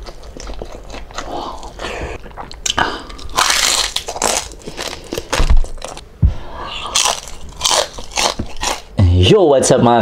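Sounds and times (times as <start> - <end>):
crunching and chewing of crispy food: 0.0 - 6.0, 6.8 - 8.9.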